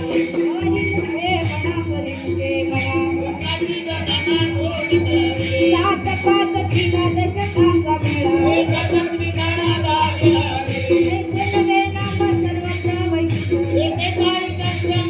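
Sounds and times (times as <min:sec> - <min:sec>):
jingling hand percussion: 0:00.0 - 0:15.0.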